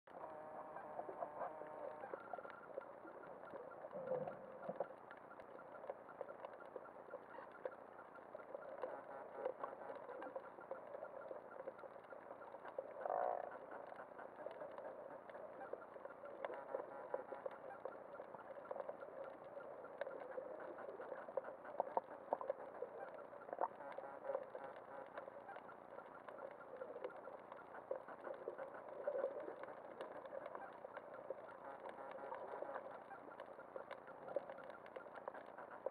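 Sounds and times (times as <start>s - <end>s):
muffled underwater ambience: 0.1s - 35.9s
scattered clicks and crackles: 0.1s - 35.9s.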